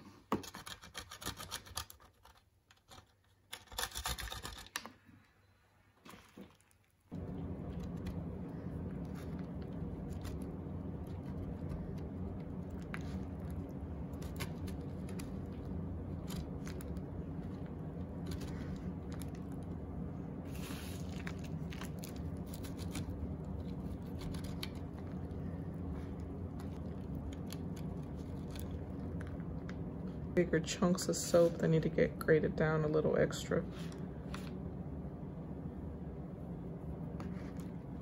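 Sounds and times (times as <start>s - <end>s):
steady low hum: 5.0s - 38.0s.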